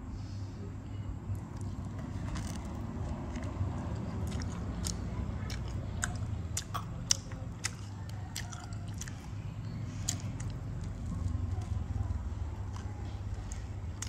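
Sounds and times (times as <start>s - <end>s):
person chewing with wet smacks: 1.3s - 14.0s.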